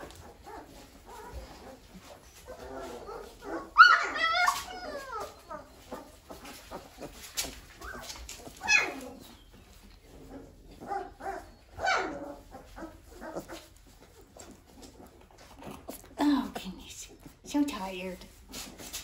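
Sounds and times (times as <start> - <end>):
puppies whining and yelping: 0.0 - 16.2.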